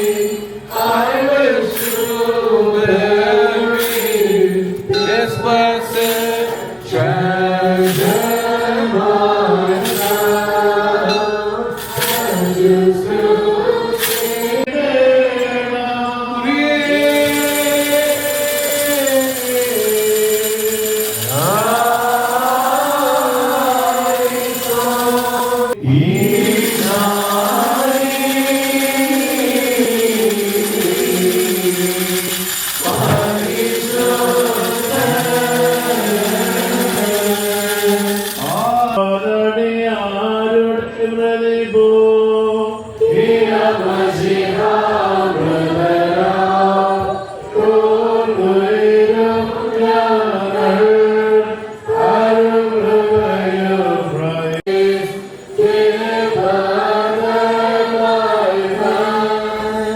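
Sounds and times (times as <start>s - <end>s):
voices chanting slow melody: 0.0s - 59.9s.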